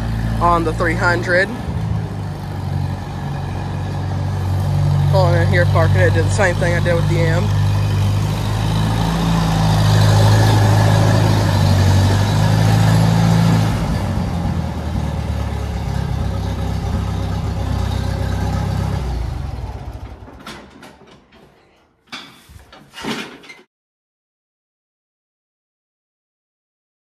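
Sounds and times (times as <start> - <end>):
tractor engine running: 0.0 - 23.4.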